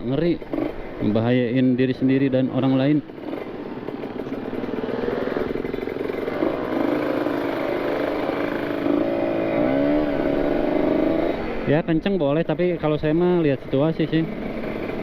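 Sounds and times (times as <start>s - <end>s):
two-stroke motorcycle engine riding: 0.0s - 15.0s.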